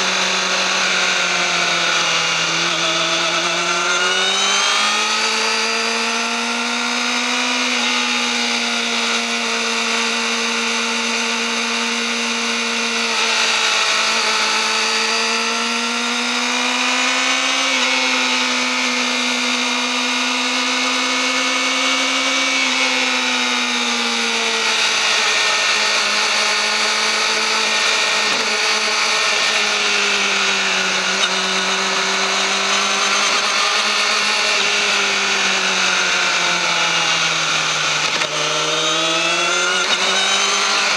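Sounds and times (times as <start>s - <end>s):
motorcycle engine high rpm whine: 0.0s - 40.9s.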